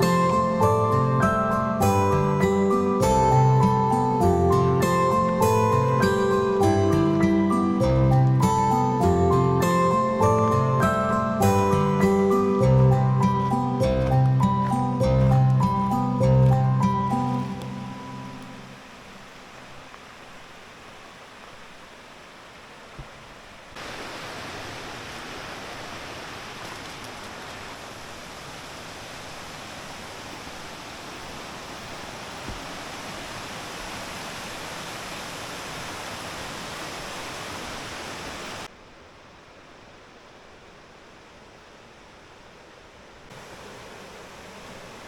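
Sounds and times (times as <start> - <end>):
river flowing over rocks: 0.0 - 38.7, 43.2 - 45.0.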